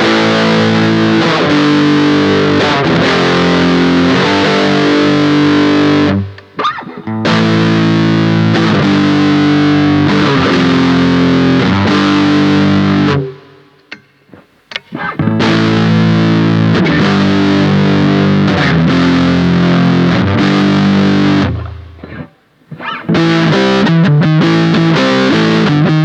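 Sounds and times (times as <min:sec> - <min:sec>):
distorted electric guitar chords: 0:00.0 - 0:26.0.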